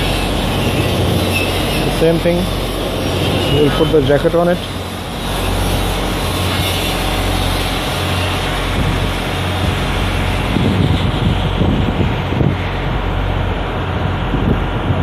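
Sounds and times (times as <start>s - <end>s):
machinery running: 0.0s - 15.0s.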